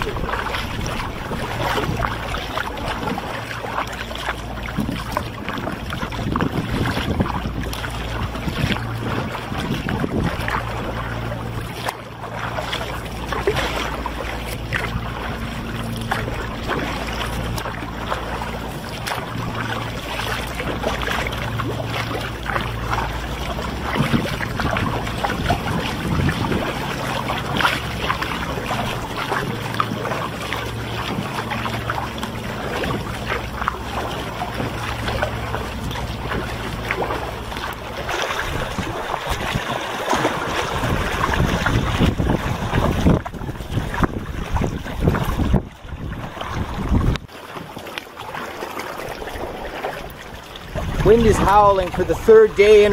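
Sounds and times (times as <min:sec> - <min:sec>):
wind rumble on microphone: 0:00.0 - 0:47.3, 0:48.8 - 0:52.9
paddle splashing and dripping: 0:00.0 - 0:52.9
water lapping on hull: 0:00.0 - 0:52.9.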